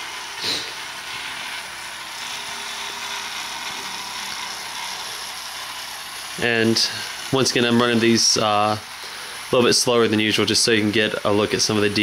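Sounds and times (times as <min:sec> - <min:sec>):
model train whirring and rattling: 0:00.0 - 0:12.0.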